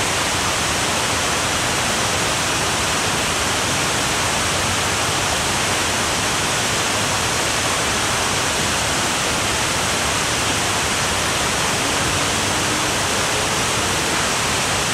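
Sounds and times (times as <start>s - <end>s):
water rushing over a weir: 0.0s - 14.9s.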